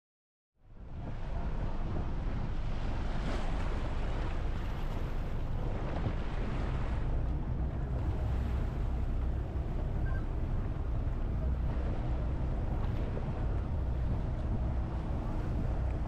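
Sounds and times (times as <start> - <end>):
water moving along hull: 0.6 - 16.0
wind buffeting microphone: 0.7 - 16.0.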